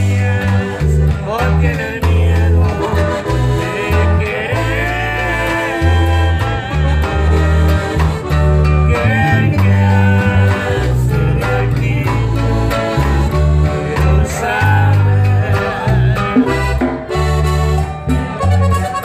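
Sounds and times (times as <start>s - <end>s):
men singing: 0.0s - 17.1s
acoustic guitar: 0.0s - 19.0s
piano accordion: 0.0s - 19.0s.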